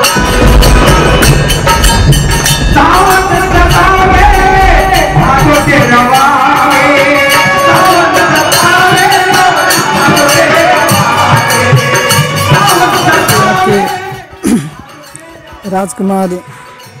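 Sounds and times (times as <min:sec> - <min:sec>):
melody over percussion beat: 0:00.0 - 0:17.0.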